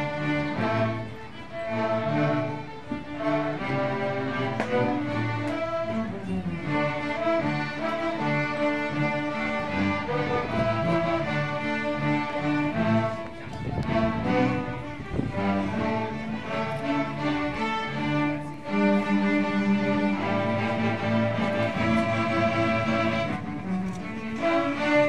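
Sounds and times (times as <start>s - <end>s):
string orchestra playing: 0.0s - 25.0s.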